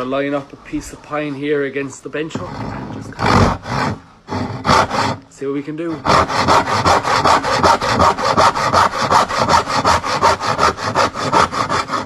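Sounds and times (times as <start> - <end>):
hand saw cutting wood: 2.2 - 12.0.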